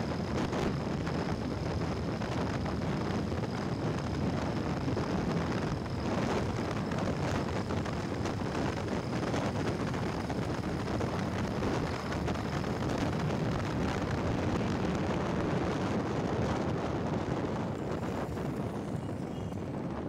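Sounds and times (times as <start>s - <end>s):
faint high whine: 0.0s - 20.0s
motorcycle road noise: 0.0s - 20.0s
wind rushing over microphone: 0.0s - 20.0s.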